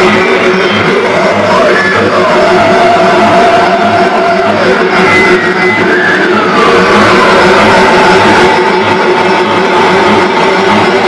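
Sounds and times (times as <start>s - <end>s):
harsh noise music: 0.0s - 11.0s.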